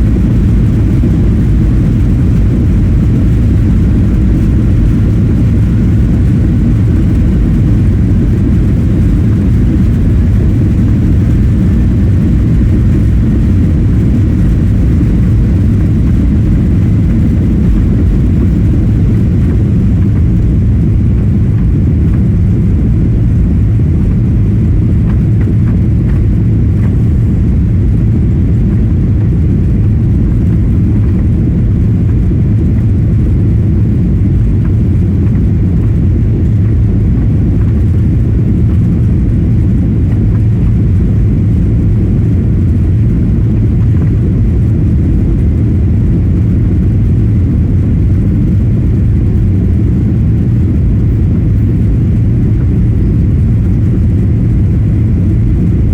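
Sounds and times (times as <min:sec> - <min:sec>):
jet cabin engine rumble: 0:00.0 - 0:55.9.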